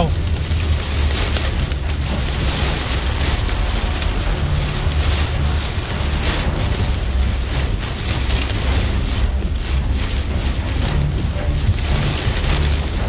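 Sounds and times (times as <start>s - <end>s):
rain and hail pelting car roof: 0.0s - 13.0s
road and wind rumble: 0.0s - 13.0s.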